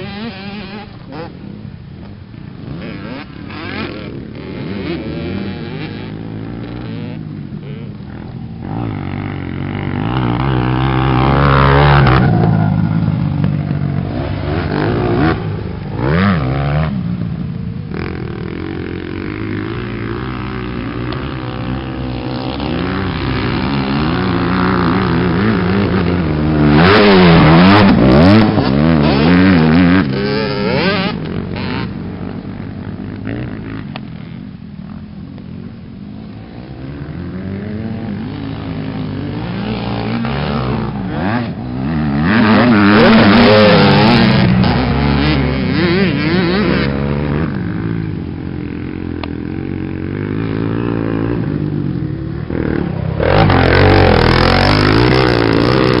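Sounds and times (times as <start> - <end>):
motocross engines revving: 0.0 - 56.0.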